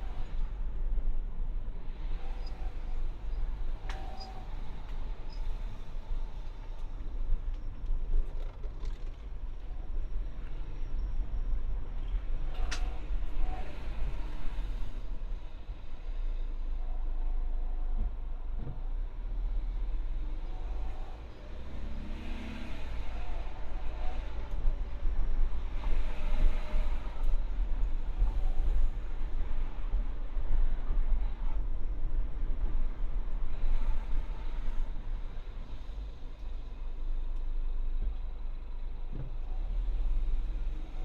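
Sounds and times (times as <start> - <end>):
car road and drivetrain rumble: 0.0 - 41.0.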